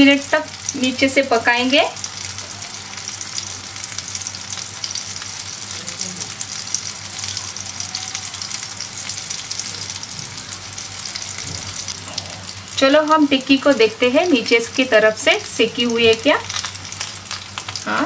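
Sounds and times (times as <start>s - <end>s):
food sizzling and crackling in oil: 0.0s - 18.0s.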